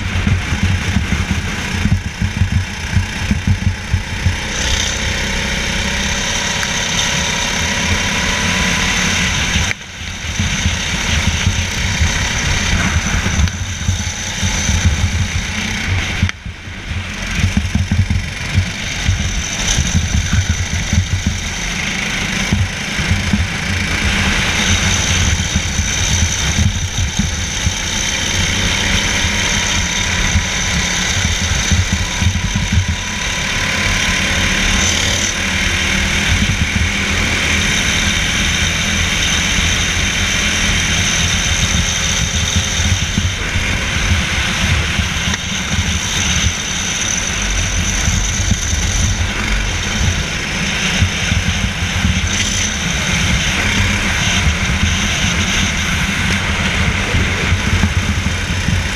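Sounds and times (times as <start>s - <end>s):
go-kart engine running hard: 0.0s - 58.9s.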